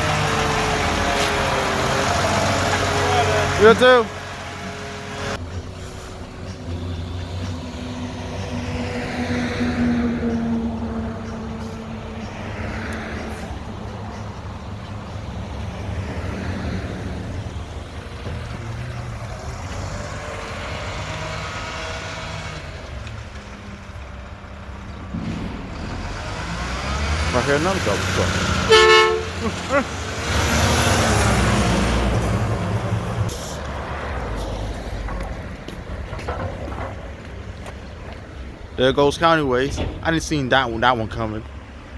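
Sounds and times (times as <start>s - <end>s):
heavy vehicle engine rumbling: 0.0s - 41.9s
traffic noise: 0.0s - 41.9s.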